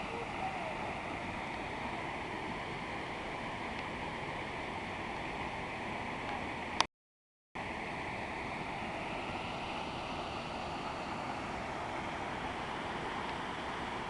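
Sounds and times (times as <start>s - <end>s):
waterfall rushing: 0.0s - 6.6s, 7.7s - 14.0s.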